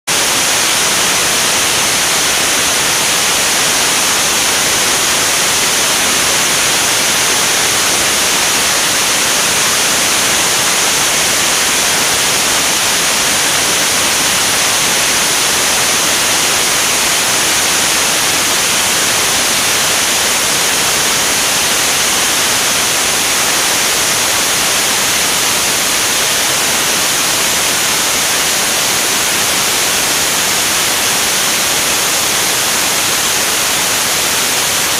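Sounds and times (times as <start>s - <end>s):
rushing airflow hiss: 0.1s - 34.9s.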